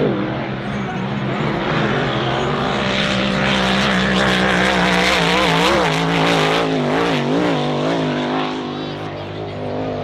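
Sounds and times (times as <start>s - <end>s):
racing boat engine running flat out: 0.0s - 10.0s.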